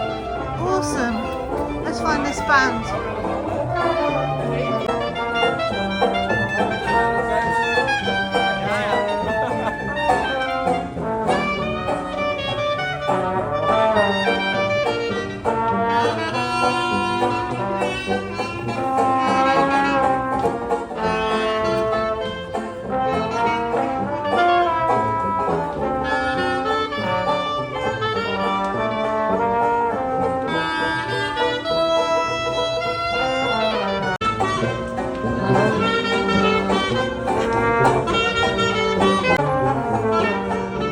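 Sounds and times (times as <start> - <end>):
brass horns: 0.0 - 40.9
live jazz band playing: 0.0 - 40.9.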